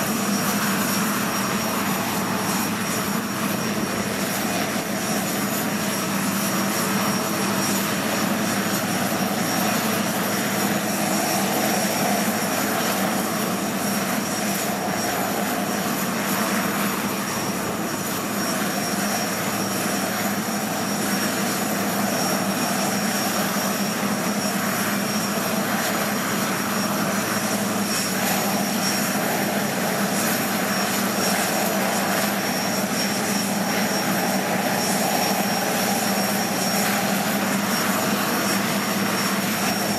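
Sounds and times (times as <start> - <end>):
helicopter rotor and engine noise: 0.0 - 39.9
helicopter turbine whine: 0.0 - 39.9.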